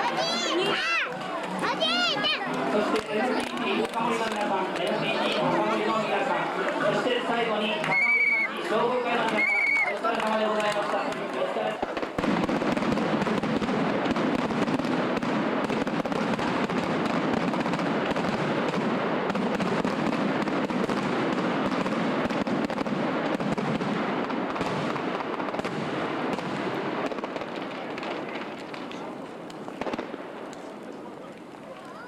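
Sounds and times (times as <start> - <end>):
fireworks crackling: 0.0 - 32.0.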